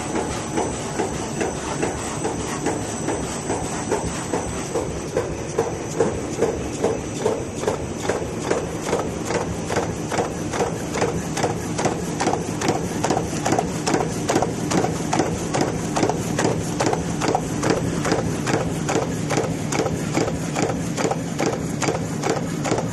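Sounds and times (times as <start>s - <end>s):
machine clacking rhythm: 0.0s - 22.9s
steady mechanical hum: 0.0s - 22.9s.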